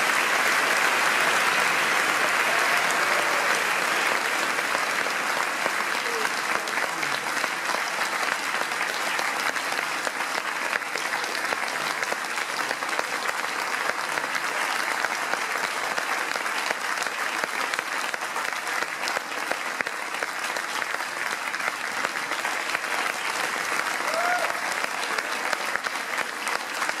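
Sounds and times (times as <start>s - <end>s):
audience applauding: 0.0s - 27.0s.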